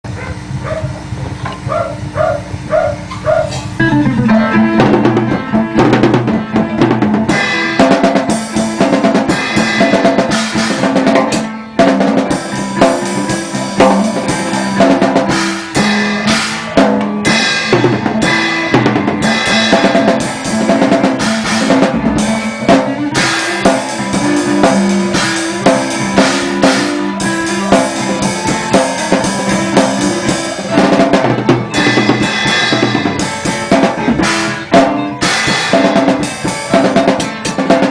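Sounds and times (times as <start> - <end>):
drum kit beat: 0.1 - 37.9
pitched notes stepping: 2.0 - 37.9.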